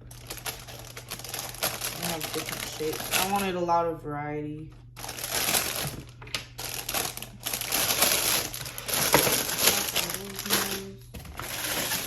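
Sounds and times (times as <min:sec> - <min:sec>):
plastic packaging crinkling: 0:00.0 - 0:03.6, 0:05.0 - 0:12.0.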